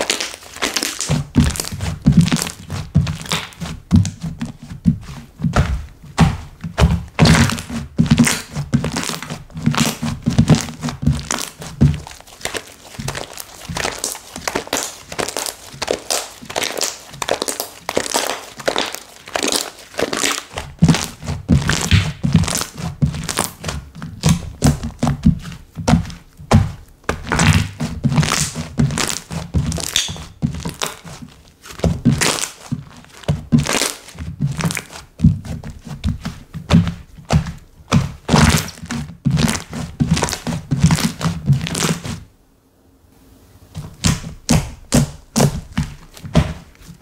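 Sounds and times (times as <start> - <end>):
slime squishing crackly pops: 0.0 - 4.3, 5.6 - 42.2.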